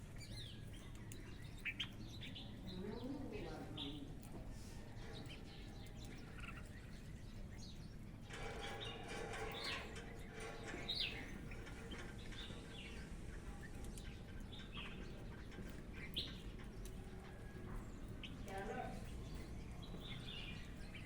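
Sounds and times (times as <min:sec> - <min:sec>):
small birds chirping: 0:00.0 - 0:21.0
steady outdoor background: 0:00.0 - 0:21.0.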